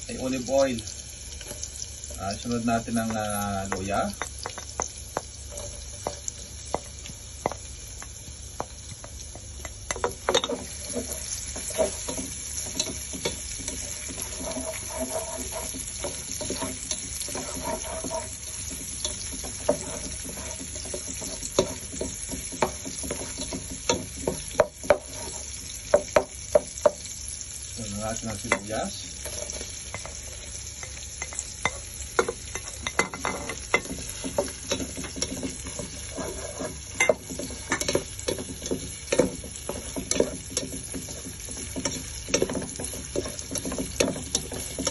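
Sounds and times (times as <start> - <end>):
garlic sizzling in oil: 0.0 - 44.9
spatula scraping pan: 1.4 - 6.9, 9.1 - 27.0, 28.2 - 44.9.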